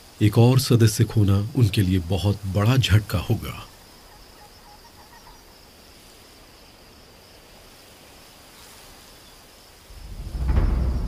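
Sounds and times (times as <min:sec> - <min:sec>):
insect trill: 0:00.0 - 0:11.0
soft hiss: 0:00.0 - 0:11.0.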